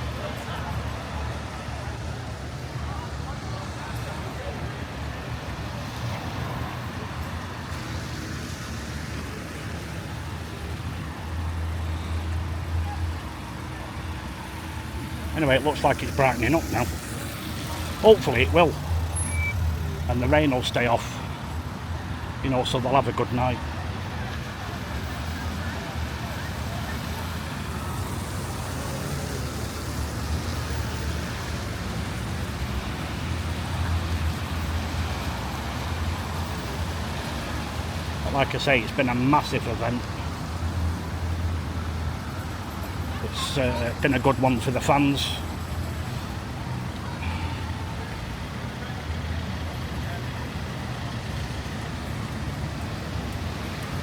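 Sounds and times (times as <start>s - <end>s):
passing cars rumble and hiss: 0.0s - 54.0s
traffic hum: 0.0s - 54.0s.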